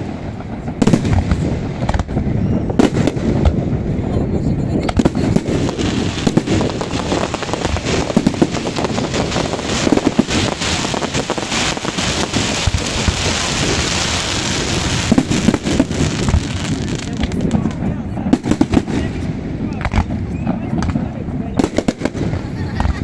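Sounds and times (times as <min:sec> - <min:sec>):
dense firework crackling: 0:00.0 - 0:23.0.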